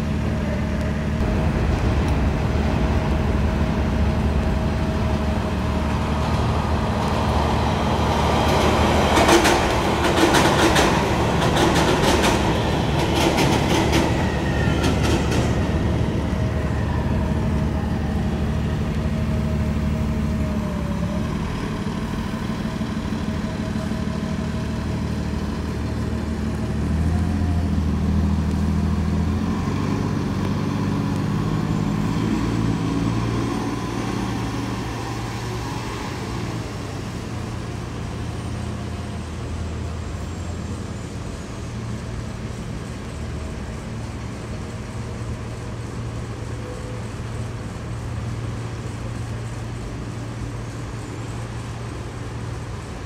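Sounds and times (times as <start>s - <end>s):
large vehicle engine idling: 0.0s - 53.0s.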